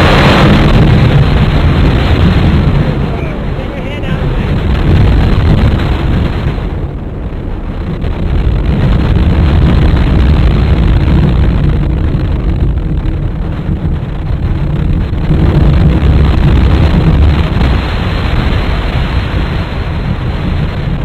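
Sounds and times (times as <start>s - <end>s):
roller coaster running on track: 0.0s - 21.0s
wind buffeting microphone: 0.0s - 21.0s.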